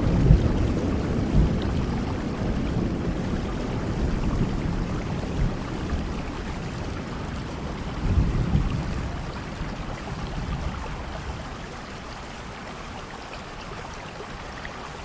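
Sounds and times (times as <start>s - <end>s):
low rumble of thunder: 0.0s - 12.6s
steady rain: 0.0s - 15.0s.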